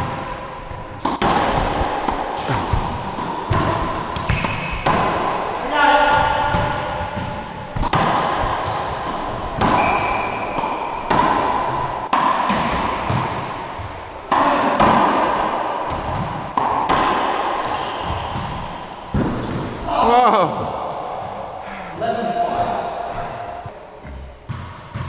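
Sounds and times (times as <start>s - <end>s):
racquetball hitting racquets and walls: 0.0s - 25.0s.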